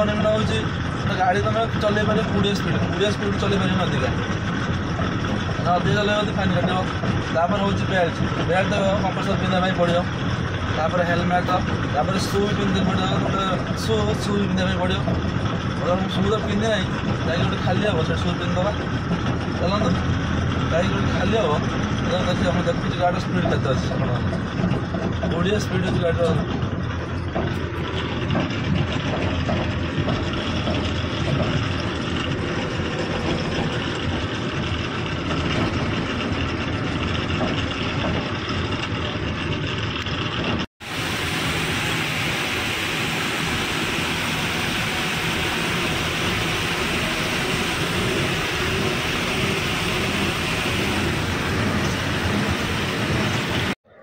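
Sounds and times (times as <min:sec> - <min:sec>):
road noise: 0:00.0 - 0:54.0
truck diesel engine: 0:00.0 - 0:54.0.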